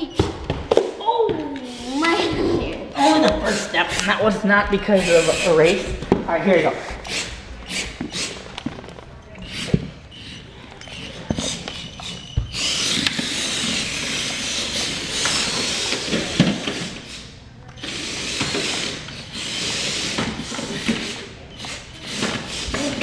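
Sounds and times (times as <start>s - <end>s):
toy vehicle motors whirring: 1.6s - 4.2s, 4.9s - 6.0s, 6.9s - 23.0s.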